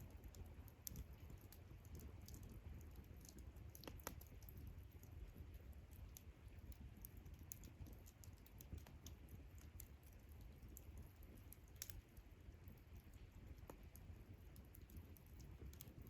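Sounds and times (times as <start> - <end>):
faint campfire crackling: 0.0 - 16.0.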